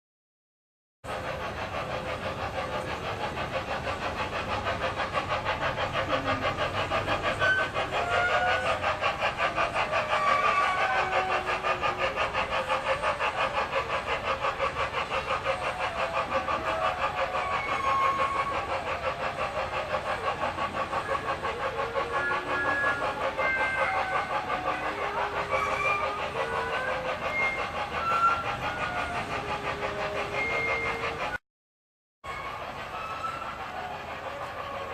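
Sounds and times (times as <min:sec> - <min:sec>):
train rhythmic clatter: 0:01.0 - 0:31.4, 0:32.2 - 0:34.9.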